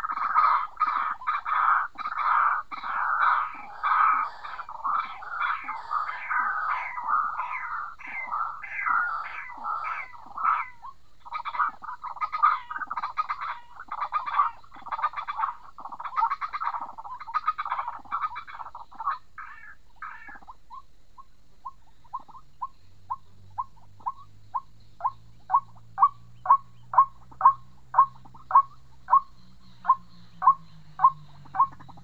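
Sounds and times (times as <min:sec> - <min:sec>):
waterhen calling: 0:00.0 - 0:32.0.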